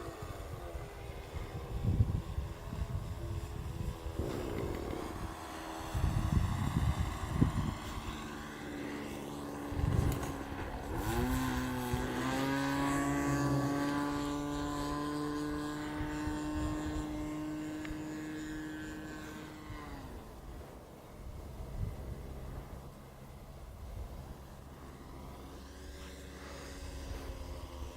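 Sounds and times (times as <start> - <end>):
wind buffeting microphone: 0.0 - 8.6, 9.6 - 18.9, 19.5 - 24.5
model airplane engine buzzing: 0.0 - 27.9.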